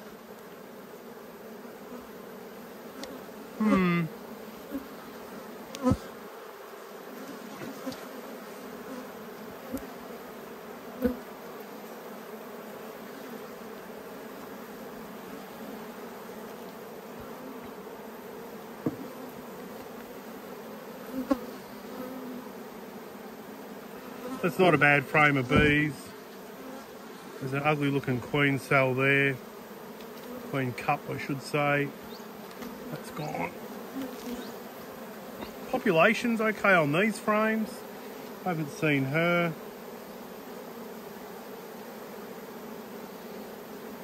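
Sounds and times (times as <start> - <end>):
bees humming: 0.0 - 44.0
loud bee buzz: 0.0 - 44.0.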